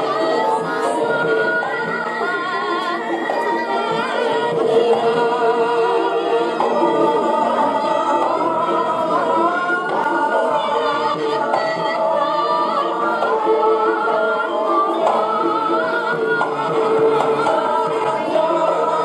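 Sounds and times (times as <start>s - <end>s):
gamelan ensemble music: 0.0s - 19.0s
voices singing: 0.0s - 19.0s.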